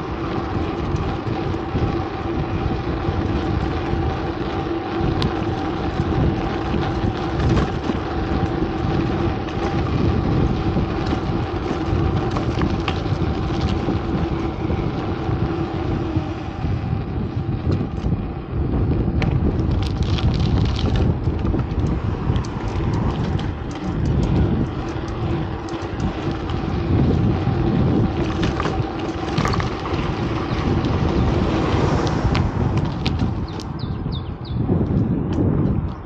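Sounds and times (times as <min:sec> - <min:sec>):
engine hum: 0:00.0 - 0:36.0
passing traffic: 0:00.0 - 0:36.0
wind buffeting microphone: 0:00.0 - 0:36.0.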